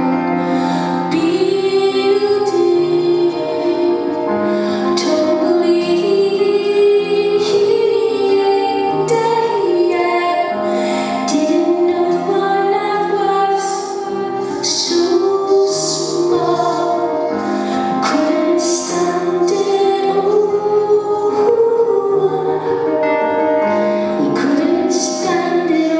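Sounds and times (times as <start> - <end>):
piano: 0.0 - 25.9
woman singing: 0.0 - 25.9.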